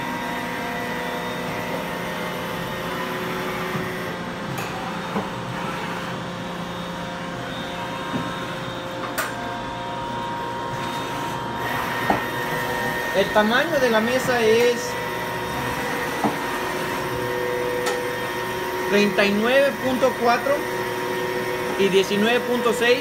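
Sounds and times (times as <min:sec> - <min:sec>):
machine hum with held tones: 0:00.0 - 0:23.0.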